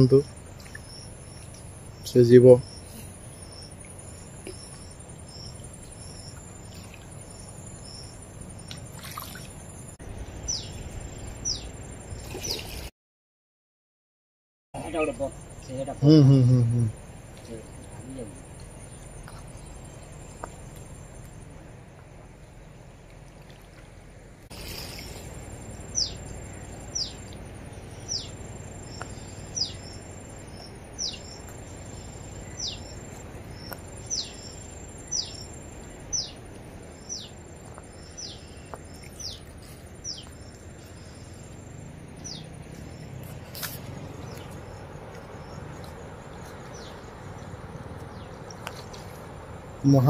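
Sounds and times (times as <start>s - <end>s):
outdoor noise: 0.0s - 12.9s, 14.8s - 50.0s.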